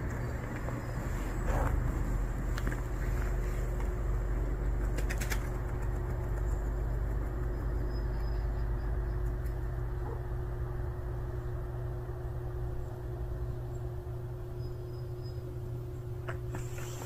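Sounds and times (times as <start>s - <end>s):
low outdoor rumble with hiss: 0.0s - 17.0s.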